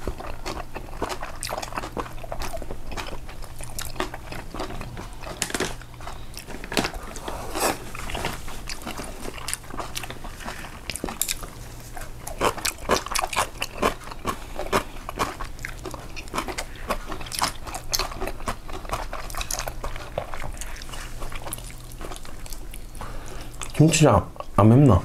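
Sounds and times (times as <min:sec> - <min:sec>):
person chewing food: 0:00.0 - 0:23.8.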